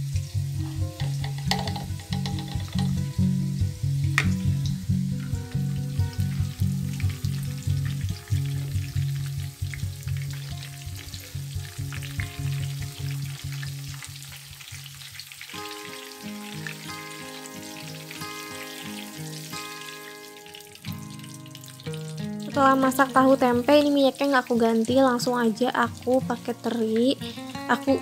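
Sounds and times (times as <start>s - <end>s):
background music: 0.0s - 14.7s, 15.5s - 28.0s
food sizzling in oil: 0.0s - 28.0s.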